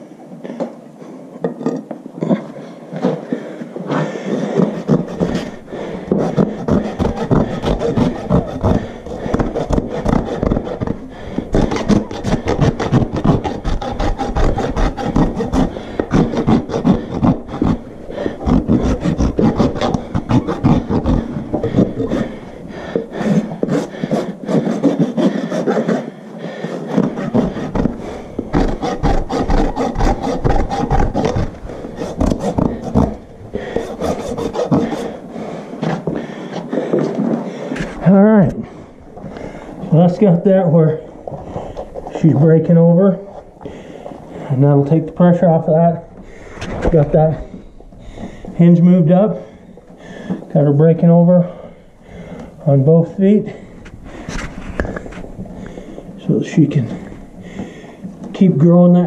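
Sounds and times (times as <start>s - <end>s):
rasp filing a hoof: 2.3s - 57.1s.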